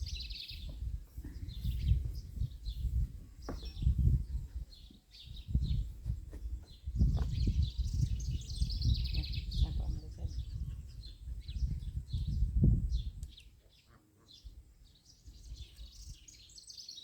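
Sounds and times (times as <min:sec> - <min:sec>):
low rumble of outdoor noise: 0:00.0 - 0:16.8
small birds chirping: 0:00.0 - 0:17.0.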